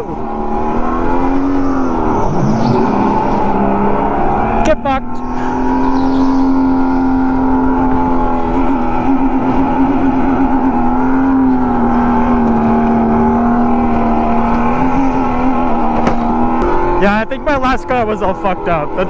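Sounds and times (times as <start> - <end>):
go-kart motor running: 0.0 - 19.0.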